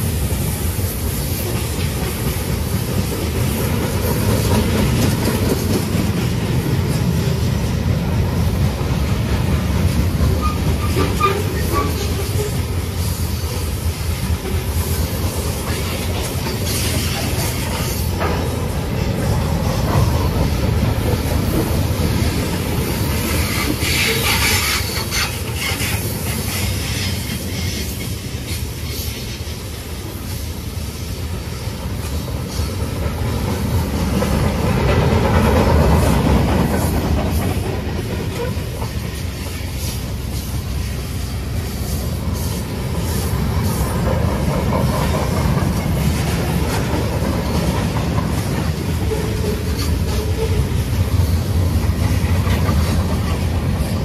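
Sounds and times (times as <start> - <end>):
wheels clicking over rail joints: 0.0 - 29.0, 31.8 - 41.0, 41.6 - 54.0
freight train rumbling: 0.0 - 54.0.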